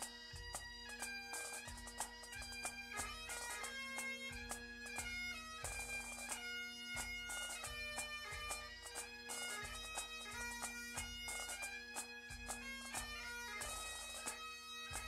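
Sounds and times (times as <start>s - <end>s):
bagpipe chanter melody: 0.0s - 15.0s
bagpipe drone: 0.0s - 15.0s.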